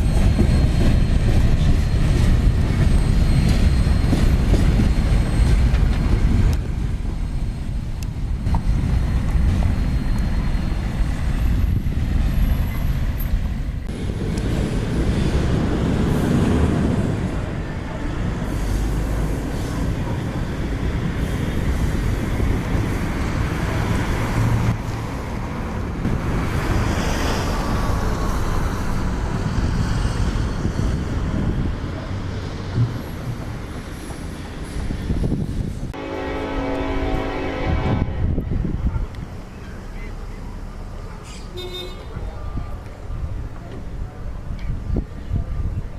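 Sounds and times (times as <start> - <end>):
vehicles passing rumble: 0.0 - 45.9.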